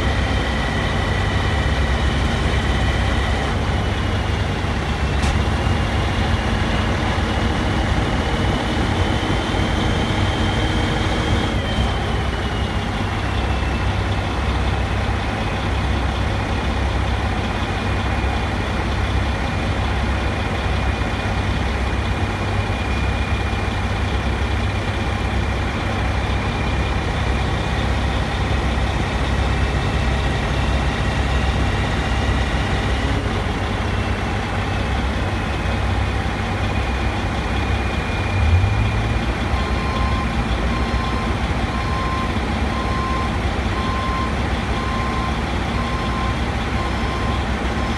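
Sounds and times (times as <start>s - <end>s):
heavy machinery engine rumbling: 0.0s - 47.9s.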